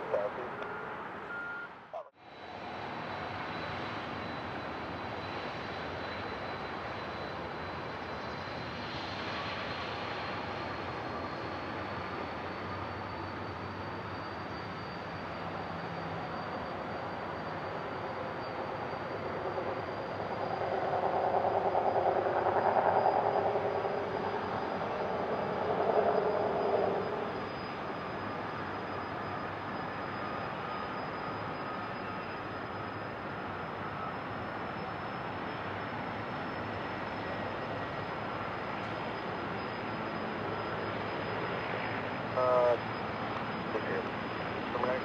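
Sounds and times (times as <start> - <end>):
helicopter turbines and rotor: 0.0 - 45.0.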